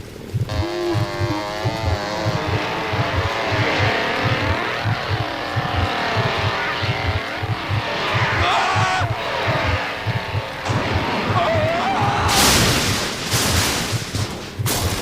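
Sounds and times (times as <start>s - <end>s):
car engine running: 0.0s - 13.2s
steady low pulse: 0.0s - 13.2s.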